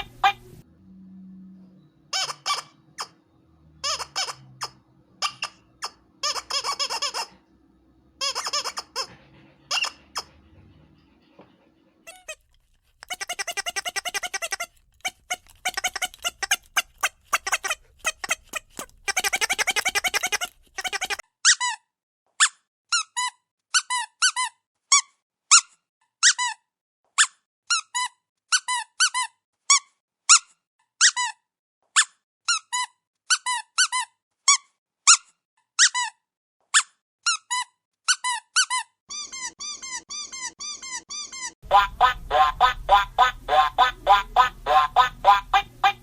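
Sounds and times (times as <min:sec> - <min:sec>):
squeaky dog toy squeaking: 0:00.0 - 0:00.6, 0:02.1 - 0:03.2, 0:03.8 - 0:07.4, 0:08.2 - 0:10.9, 0:11.5 - 0:46.0.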